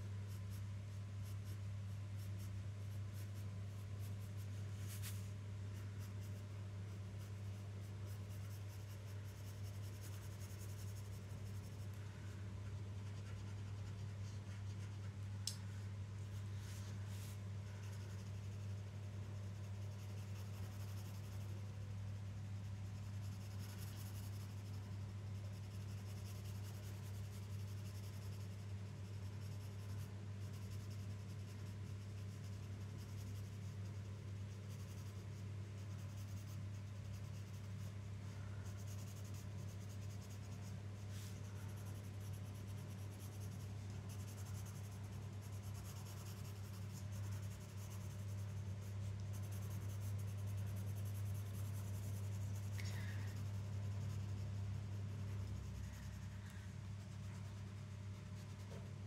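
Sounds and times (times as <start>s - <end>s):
steady low hum: 0.0s - 59.0s
pencil scratching on paper: 0.3s - 15.2s, 16.6s - 59.0s.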